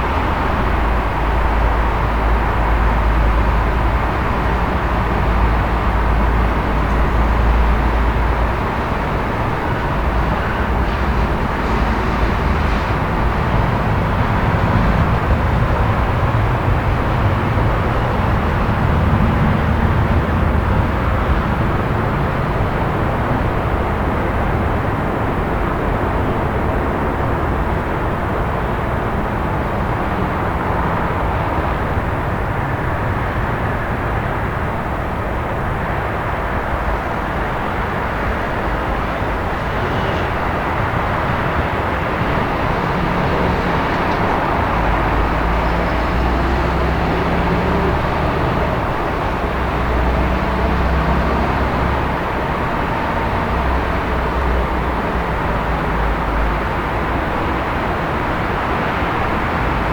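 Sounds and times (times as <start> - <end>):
distant traffic noise: 0.0 - 59.9.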